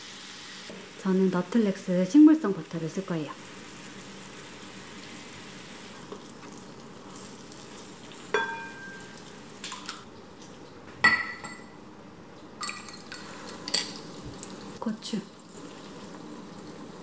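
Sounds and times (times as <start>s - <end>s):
food sizzling in a frying pan: 0.0s - 9.7s, 12.7s - 17.0s.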